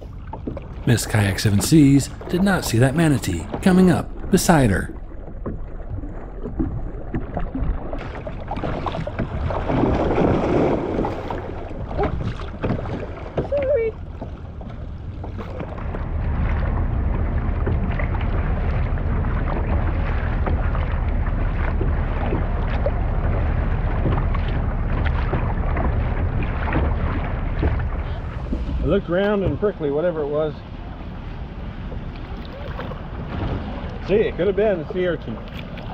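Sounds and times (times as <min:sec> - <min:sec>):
waves lapping against a hull: 0:00.0 - 0:35.9.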